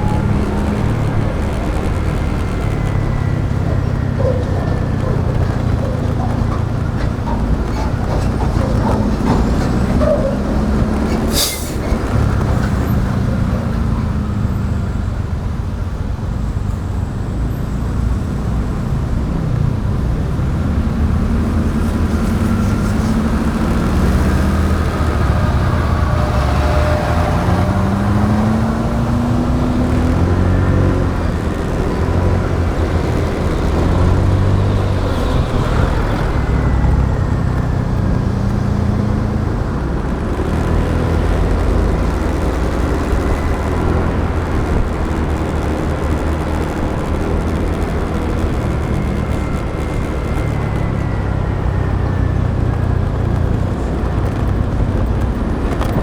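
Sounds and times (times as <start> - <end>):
motorbike engine: 0.0 - 16.0, 18.8 - 56.0
wind and road noise: 0.0 - 56.0.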